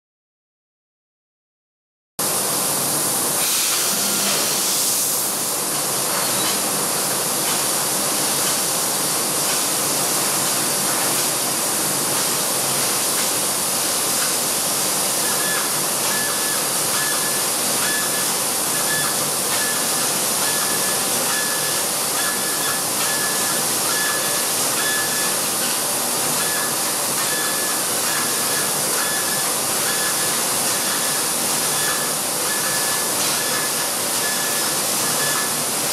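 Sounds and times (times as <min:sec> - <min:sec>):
laser cutter hissing: 0:02.6 - 0:35.9.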